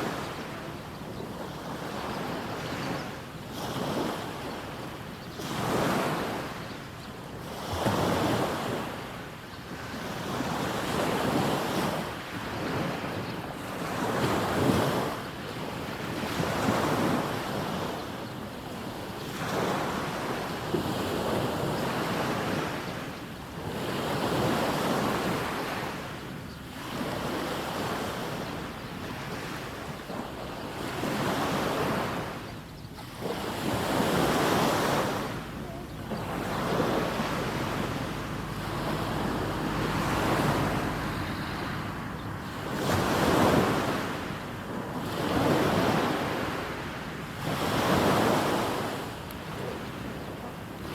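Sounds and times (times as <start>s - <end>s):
small waves washing up beach: 0.0s - 50.9s.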